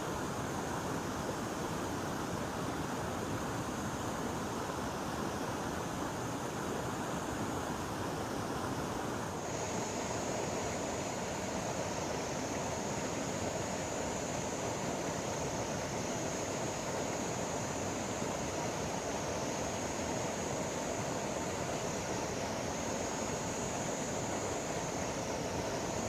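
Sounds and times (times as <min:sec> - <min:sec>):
high-pitched hiss: 0:00.0 - 0:26.0
river water rushing: 0:00.0 - 0:26.0.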